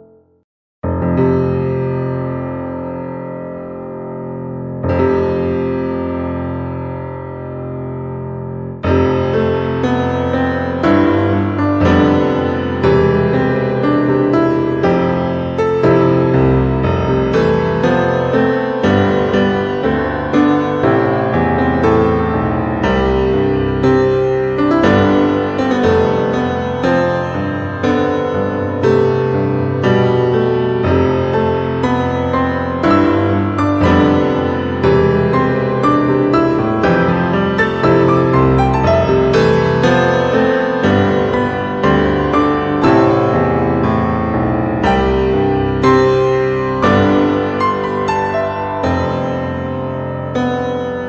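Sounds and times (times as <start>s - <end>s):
piano background music: 0.0s - 51.0s.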